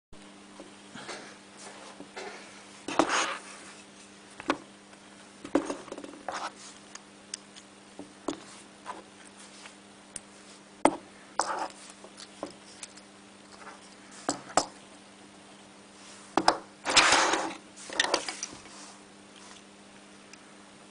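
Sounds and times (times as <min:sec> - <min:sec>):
faint steady hum: 0:00.2 - 0:20.9.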